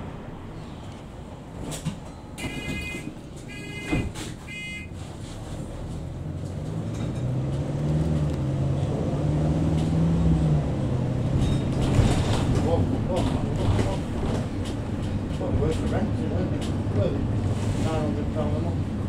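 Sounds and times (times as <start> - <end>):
diesel engine: 0.0 - 19.0.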